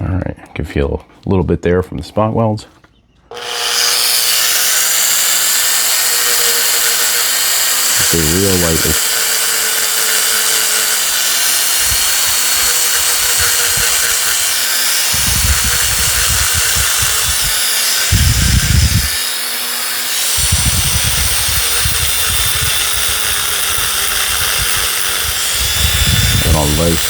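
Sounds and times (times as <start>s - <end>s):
rotary tool grinding metal: 3.3s - 27.0s.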